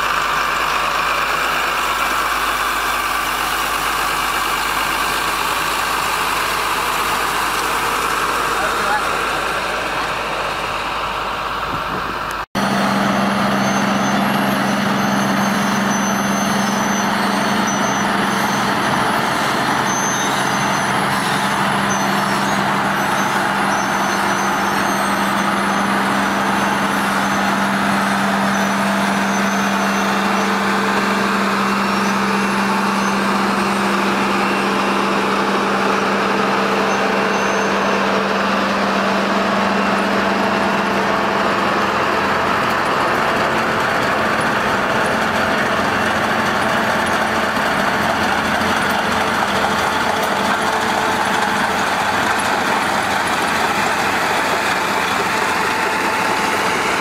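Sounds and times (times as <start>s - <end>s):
diesel machinery droning: 0.0s - 57.0s.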